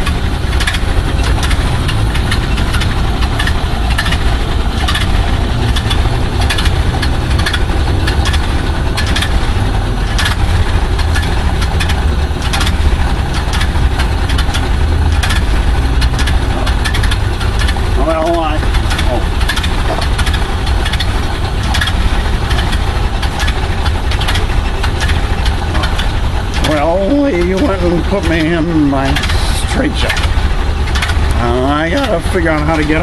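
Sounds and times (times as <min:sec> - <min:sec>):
sharp clicks: 0:00.0 - 0:32.9
truck engine idling: 0:00.0 - 0:33.0.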